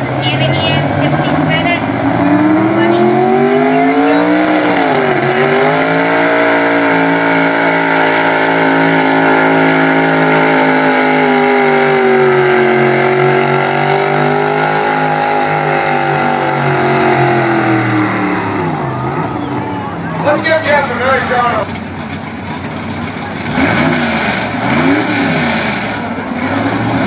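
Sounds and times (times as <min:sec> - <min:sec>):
truck engine revving under load: 0:00.0 - 0:27.0.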